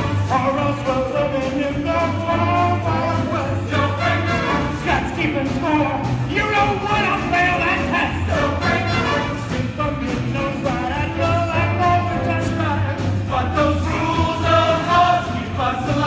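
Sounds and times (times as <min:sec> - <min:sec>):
band playing up-tempo show music: 0:00.0 - 0:16.0
voices singing: 0:00.0 - 0:16.0.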